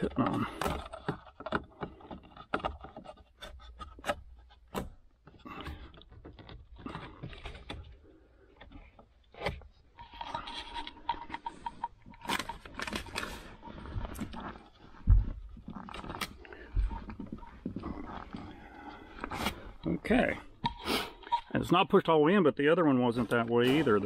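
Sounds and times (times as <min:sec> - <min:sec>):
plastic scraping and rustling: 0:00.0 - 0:24.0.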